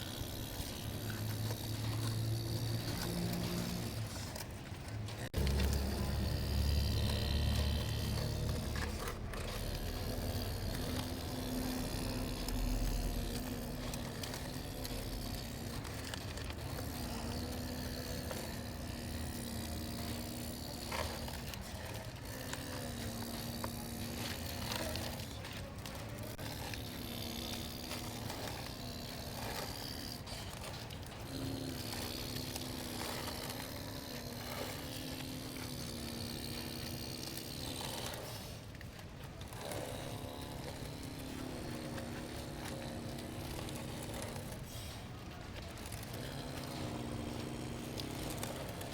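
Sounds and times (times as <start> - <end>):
electric motor hum: 0.0 - 48.9
scrapes and clicks: 0.0 - 48.9.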